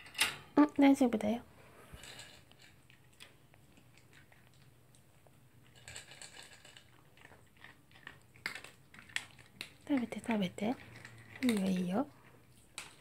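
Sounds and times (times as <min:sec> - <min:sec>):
dog crunching dry kibble: 0:02.0 - 0:13.0.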